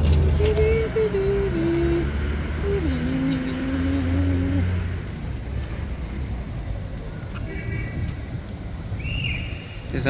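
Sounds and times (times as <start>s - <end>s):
low traffic rumble: 0.0s - 10.0s
vehicle engine hum: 0.0s - 10.0s.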